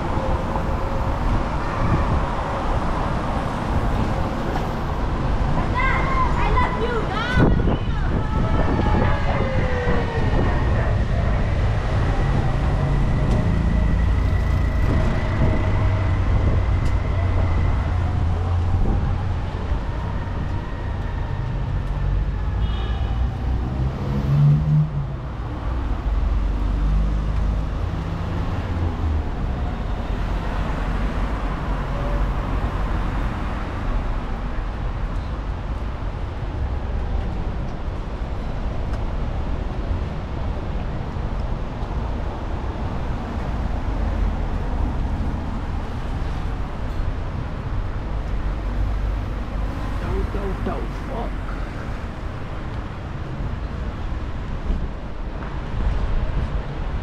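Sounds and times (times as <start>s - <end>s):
cars passing: 0.0s - 57.0s
steady low traffic rumble: 0.0s - 57.0s.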